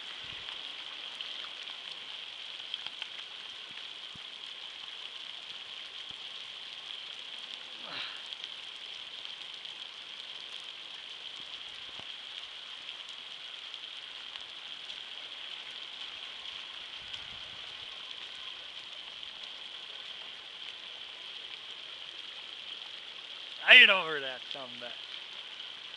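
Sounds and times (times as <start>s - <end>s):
rain falling on water and grass: 0.0s - 25.9s.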